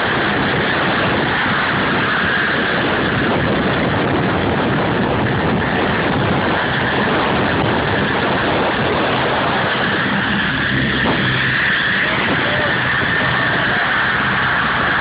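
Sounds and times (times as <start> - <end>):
high engine whine: 0.0 - 15.0
rotor downwash buffeting microphone: 0.0 - 15.0.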